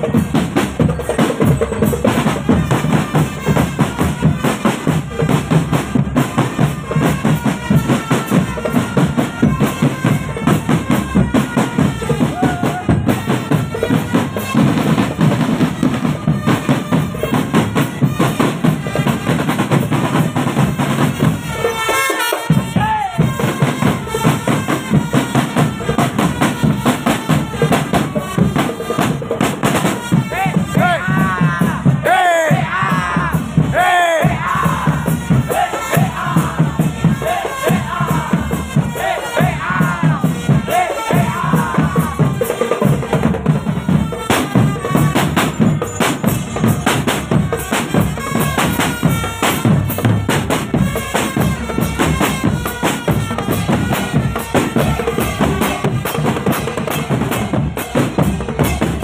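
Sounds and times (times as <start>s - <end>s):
marching drum band: 0.0s - 59.0s.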